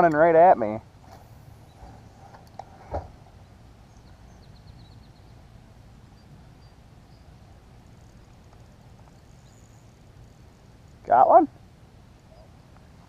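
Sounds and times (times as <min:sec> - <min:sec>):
outdoor ambience over water: 0:00.0 - 0:13.0.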